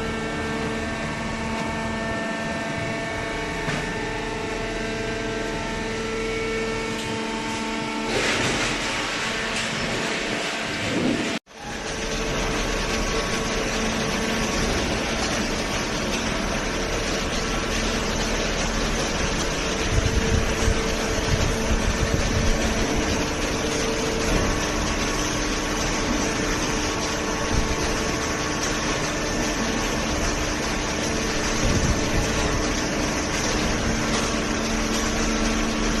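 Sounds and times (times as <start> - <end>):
baler motor and pump humming: 0.0 - 36.0.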